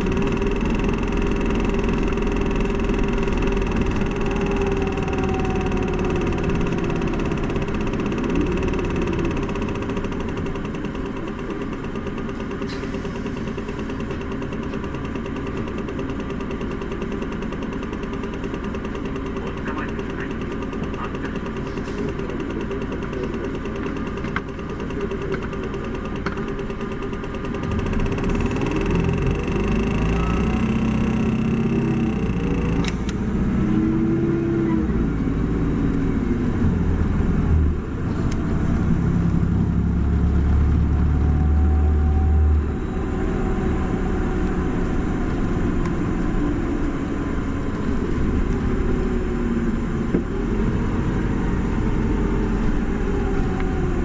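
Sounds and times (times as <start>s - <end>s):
bus diesel engine: 0.0s - 54.0s.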